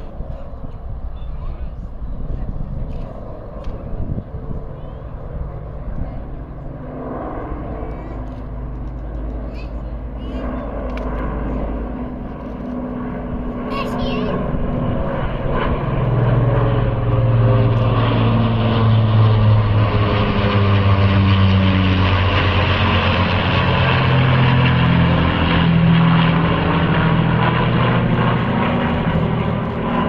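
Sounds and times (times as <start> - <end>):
propeller aircraft engine drone: 0.0 - 30.0.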